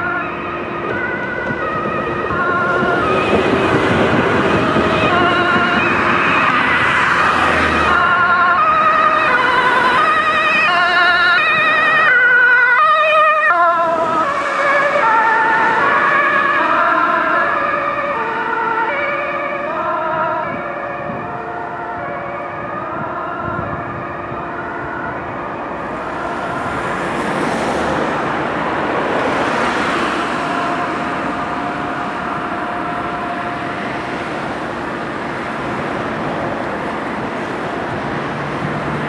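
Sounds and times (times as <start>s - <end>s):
cars passing close: 0.0s - 39.0s
two-tone ambulance siren: 0.0s - 39.0s.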